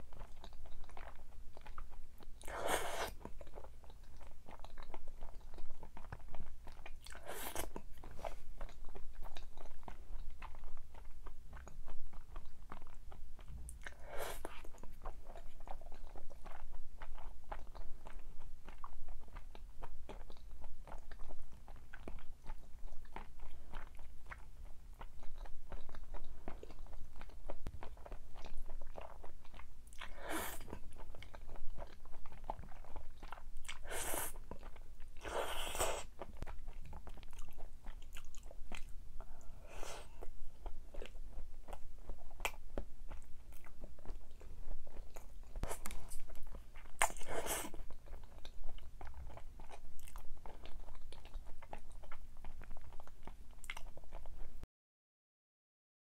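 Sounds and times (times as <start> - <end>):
chewing and crunching food: 0.0 - 54.6.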